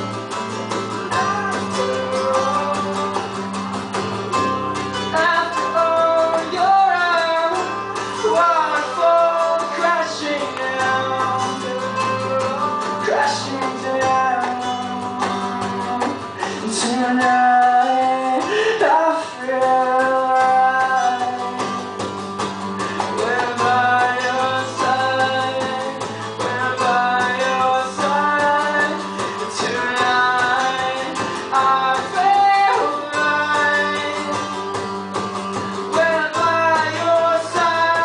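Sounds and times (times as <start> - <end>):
acoustic guitar playing: 0.0 - 38.0
person singing: 0.9 - 3.9, 4.6 - 21.9, 22.8 - 34.8, 35.6 - 38.0.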